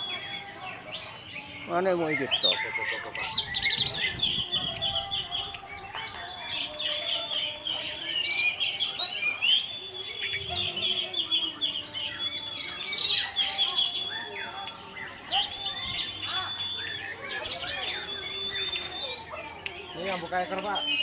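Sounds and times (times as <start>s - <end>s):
thrush singing: 0.0s - 21.0s.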